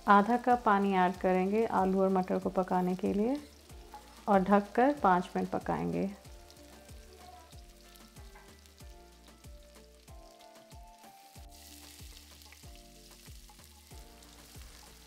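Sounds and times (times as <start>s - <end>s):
food sizzling in a pot: 0.0s - 15.0s
soft background music: 0.0s - 15.0s.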